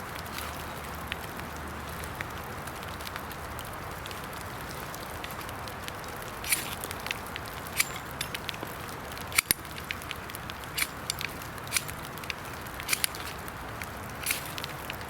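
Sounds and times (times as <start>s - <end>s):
fire of sticks crackling: 0.0s - 15.0s
rain pattering: 0.0s - 15.0s.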